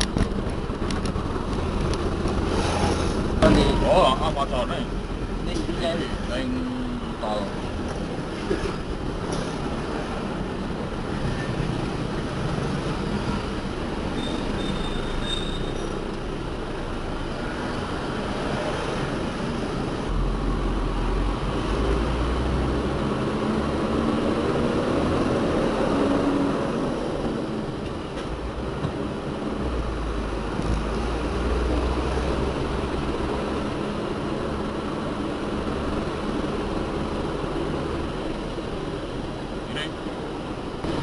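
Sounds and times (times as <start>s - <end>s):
heavy diesel machinery rumbling: 0.0s - 41.0s.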